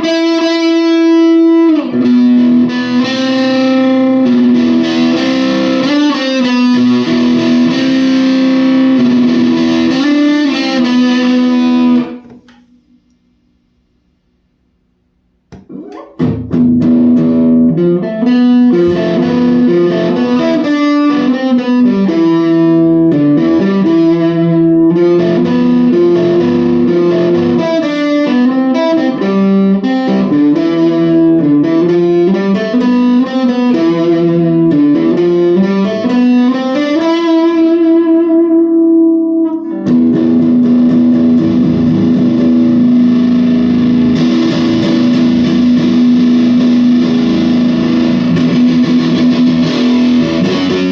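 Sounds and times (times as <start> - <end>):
distorted electric guitar riff: 0.0 - 13.0, 15.5 - 50.9
distorted guitar chord ringing: 0.0 - 13.0, 15.6 - 50.9.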